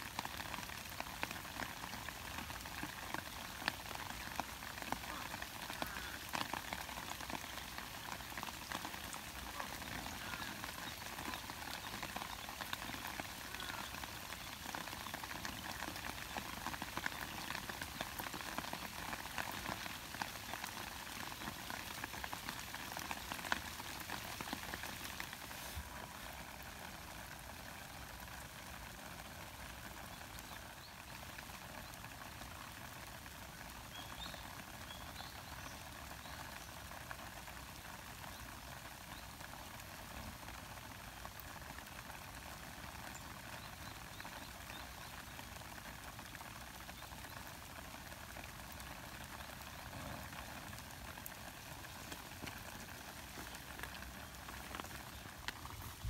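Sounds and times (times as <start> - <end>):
light rain on stone and leaves: 0.0 - 56.0.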